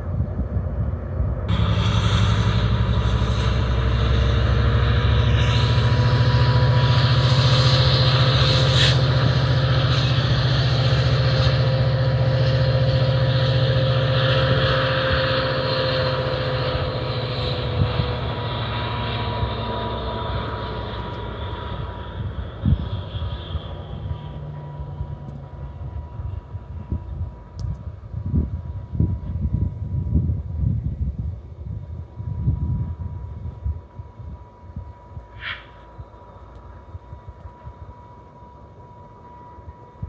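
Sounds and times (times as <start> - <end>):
diesel locomotive engine rumble: 0.0 - 40.0
locomotive whine: 0.0 - 40.0.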